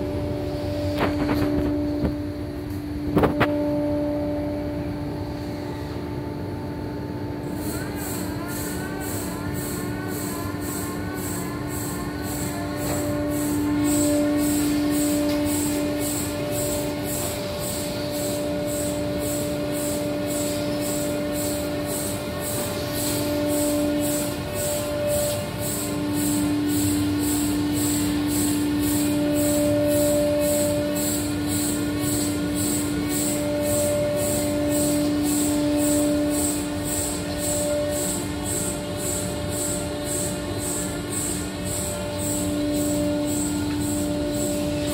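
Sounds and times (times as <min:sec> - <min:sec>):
router spindle whine: 0:00.0 - 0:44.9.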